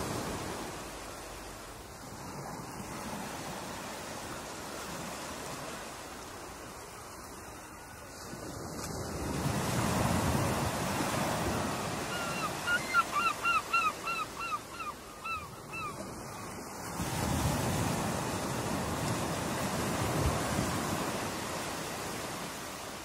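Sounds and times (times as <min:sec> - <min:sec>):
ocean surf washing in: 0:00.0 - 0:07.1, 0:08.0 - 0:13.0, 0:16.0 - 0:23.0.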